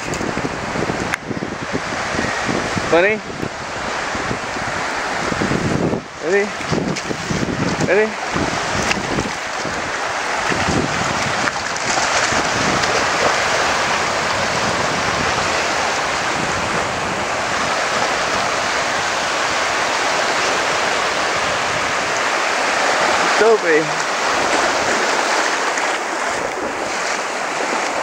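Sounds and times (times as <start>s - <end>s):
small waves breaking on shore: 0.0s - 28.0s.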